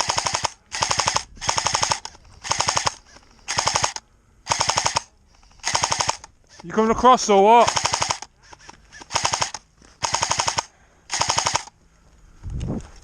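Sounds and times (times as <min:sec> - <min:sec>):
airsoft rifle bursts: 0:00.0 - 0:06.8, 0:07.5 - 0:11.8.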